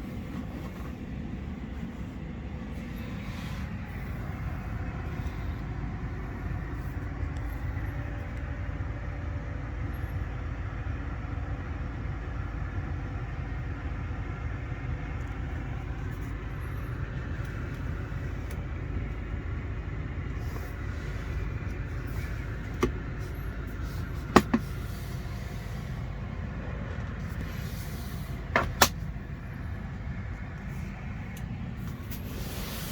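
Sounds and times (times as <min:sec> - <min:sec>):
low vehicle rumble: 0:00.0 - 0:32.9.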